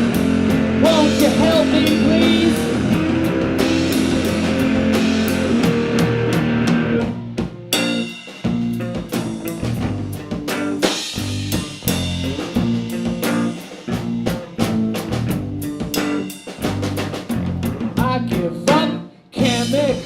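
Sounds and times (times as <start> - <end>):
live rock band instrumental: 0.0 - 20.0.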